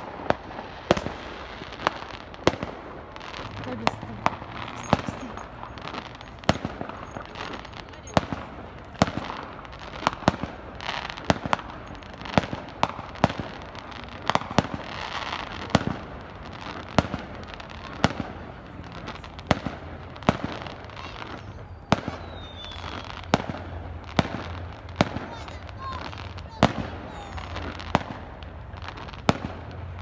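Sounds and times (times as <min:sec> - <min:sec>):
fireworks bangs: 0:00.0 - 0:30.0
steady background noise: 0:00.0 - 0:30.0.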